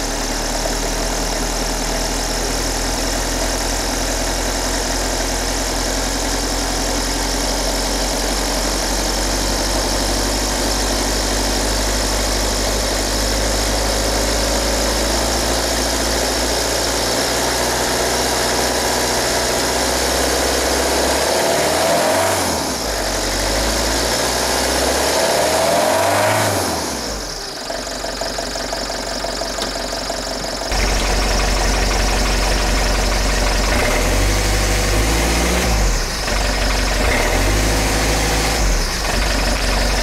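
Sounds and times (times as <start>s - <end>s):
diesel engine idling: 0.0s - 20.8s, 26.8s - 40.0s.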